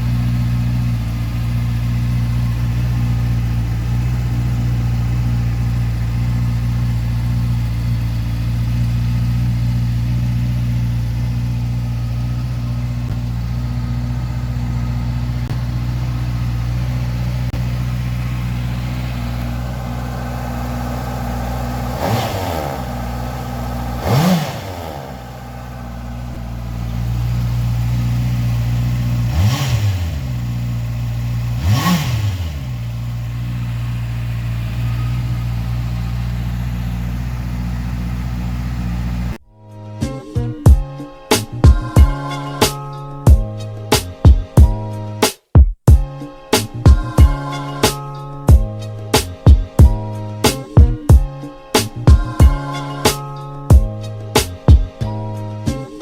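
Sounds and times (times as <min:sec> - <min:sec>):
motorcycle engine idling: 0:00.0 - 0:39.4, 0:41.6 - 0:45.1, 0:46.8 - 0:55.7.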